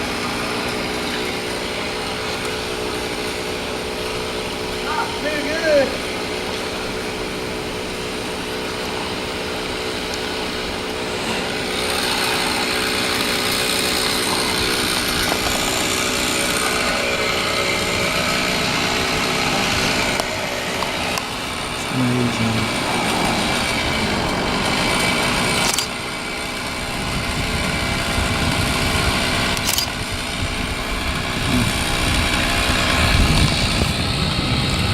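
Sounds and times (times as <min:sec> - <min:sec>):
chainsaw running: 0:00.0 - 0:34.9
steady engine hum: 0:00.0 - 0:34.9.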